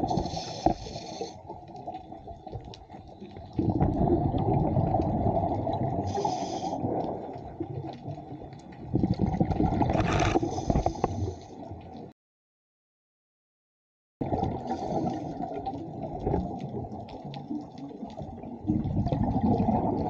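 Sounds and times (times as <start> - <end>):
underwater regulator bubbles: 0.0 - 11.9, 14.2 - 20.0
underwater rush: 0.0 - 11.9, 14.2 - 20.0.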